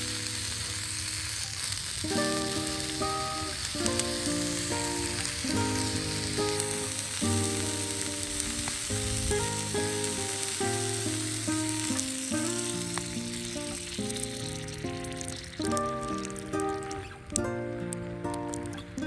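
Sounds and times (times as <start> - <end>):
oil sizzling in a skillet: 0.0 - 19.0
plucked string music: 0.0 - 19.0.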